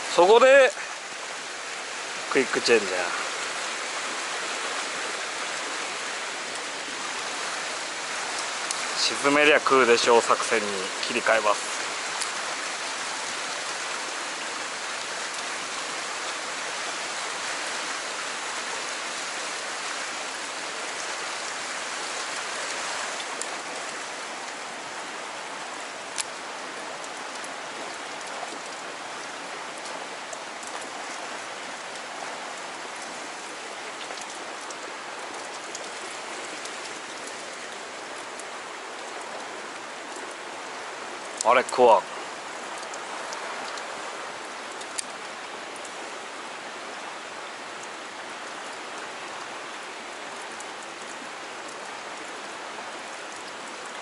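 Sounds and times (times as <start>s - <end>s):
water rushing through rock channel: 0.0s - 54.0s.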